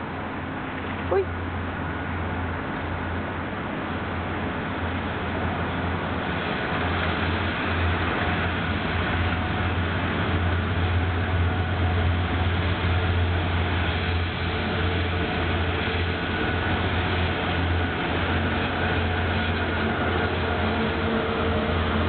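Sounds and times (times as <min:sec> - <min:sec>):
diesel locomotive drone: 0:00.0 - 0:22.0
train running on rails: 0:00.0 - 0:22.0.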